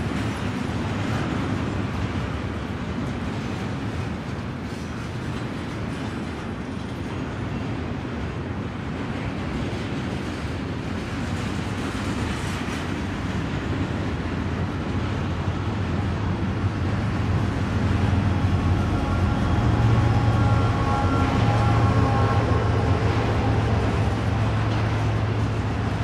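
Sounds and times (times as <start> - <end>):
diesel locomotive rumble: 0.0 - 26.0
train wheels on rails: 0.0 - 26.0.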